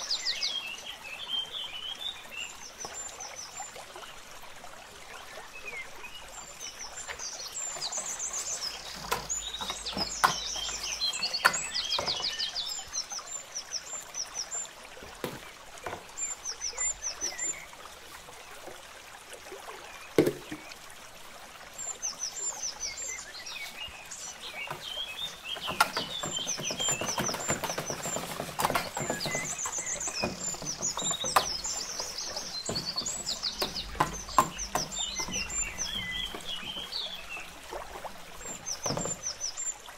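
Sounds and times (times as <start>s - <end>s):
small birds chirping: 4.9s - 18.8s, 21.6s - 39.9s.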